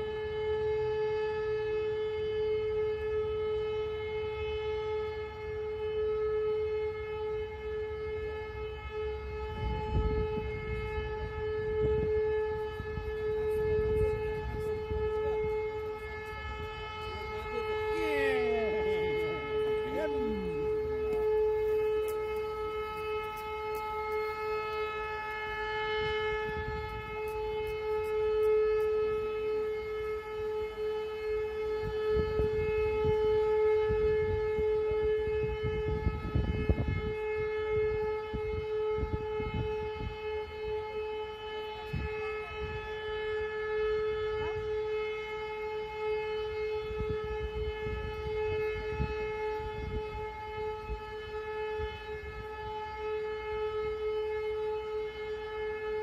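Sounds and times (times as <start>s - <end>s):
siren steady tone: 0.0s - 56.0s.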